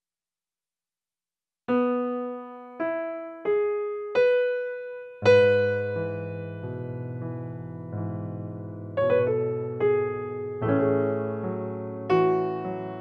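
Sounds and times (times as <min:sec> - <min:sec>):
electric piano music: 0:01.7 - 0:13.0.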